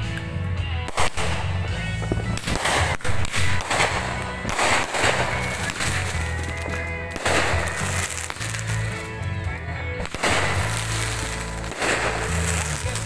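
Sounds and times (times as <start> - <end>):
fireworks bangs and crackles: 0.0 - 13.0
music with heavy bass: 0.0 - 13.0.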